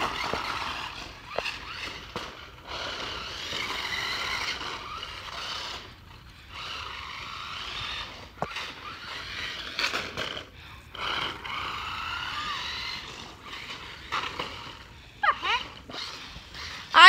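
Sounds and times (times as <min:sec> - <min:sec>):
toy car motor whirring: 0:00.0 - 0:17.0
wheels scraping on ground: 0:00.0 - 0:17.0.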